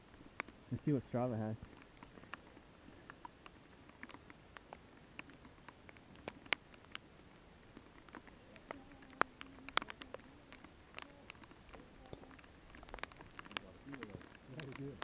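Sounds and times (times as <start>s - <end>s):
small clicks and ticks: 0.0s - 15.0s.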